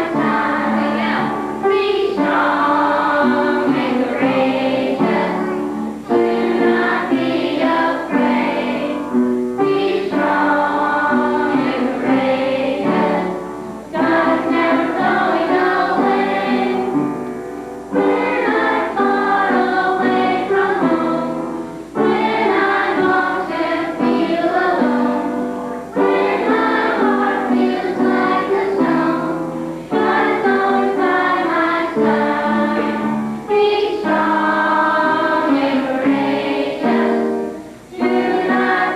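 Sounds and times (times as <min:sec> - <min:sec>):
children singing: 0:00.0 - 0:38.9.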